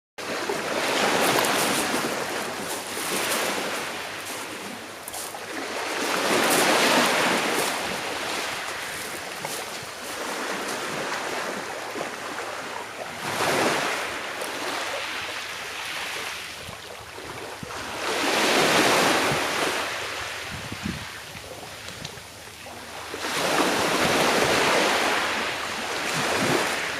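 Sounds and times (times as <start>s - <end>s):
small waves breaking on shore: 0.2s - 26.9s.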